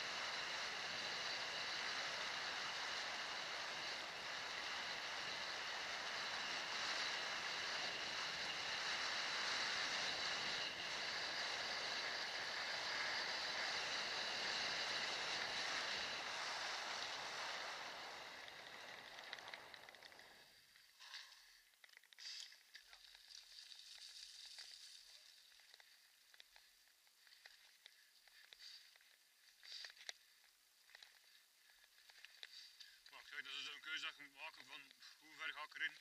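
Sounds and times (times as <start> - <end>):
scooter wheels rolling on concrete: 0.0 - 33.7.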